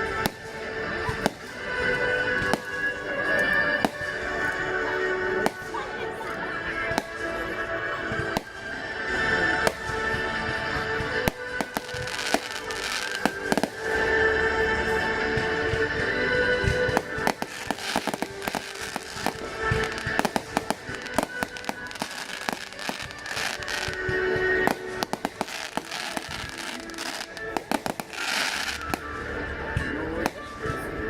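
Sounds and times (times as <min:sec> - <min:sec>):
fireworks bangs and crackles: 0:00.0 - 0:31.0
music playing: 0:00.0 - 0:31.0.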